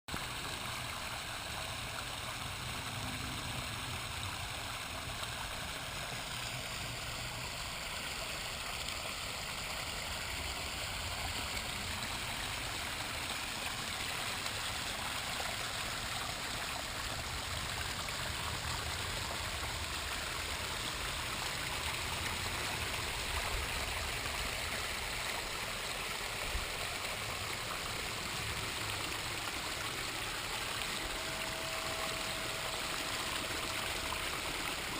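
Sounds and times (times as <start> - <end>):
water pouring over rocks: 0.1 - 34.9.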